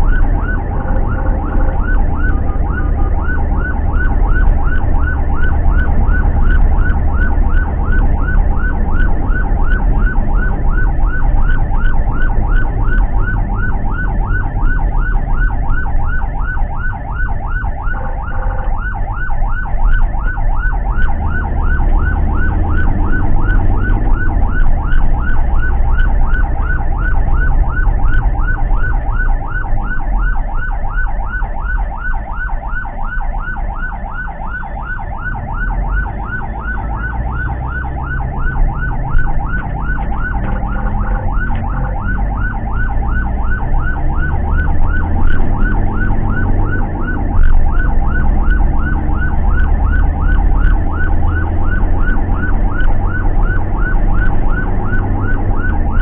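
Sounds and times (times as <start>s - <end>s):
ambulance siren yelping: 0.0s - 56.0s
engine and road rumble: 0.0s - 56.0s
steady siren tone: 0.0s - 56.0s.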